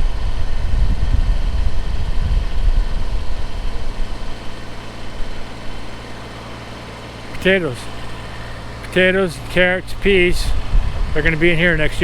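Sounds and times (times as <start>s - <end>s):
tractor diesel engine idling: 2.4s - 12.0s.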